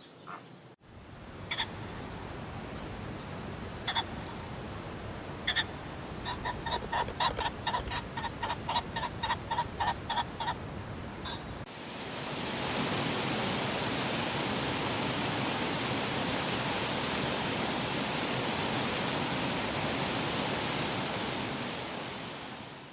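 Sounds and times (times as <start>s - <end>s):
steady rushing hiss: 0.8s - 22.9s.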